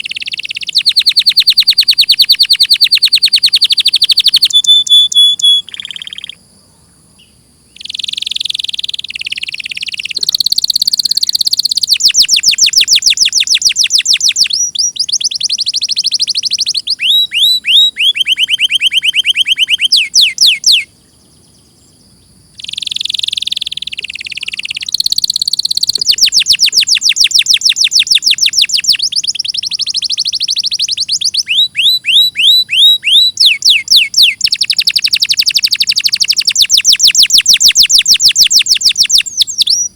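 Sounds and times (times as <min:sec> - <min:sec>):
canary singing in rolling trills: 0:00.0 - 0:06.4, 0:07.2 - 0:39.9.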